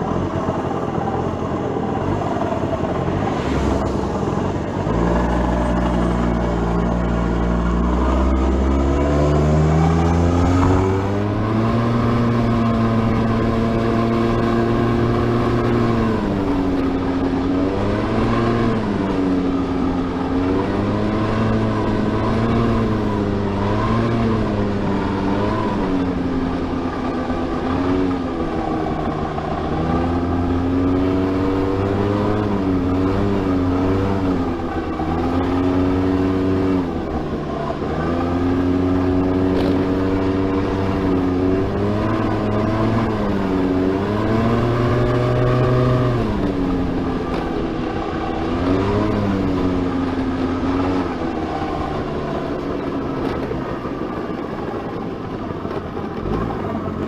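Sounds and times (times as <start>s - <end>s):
scooter engine revving: 0.0s - 57.0s.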